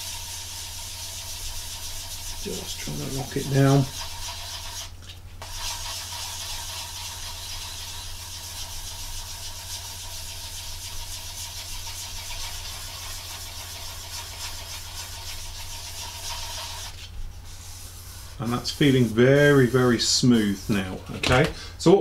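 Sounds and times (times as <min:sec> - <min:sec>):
sanding sponge scraping plastic: 0:00.0 - 0:21.2.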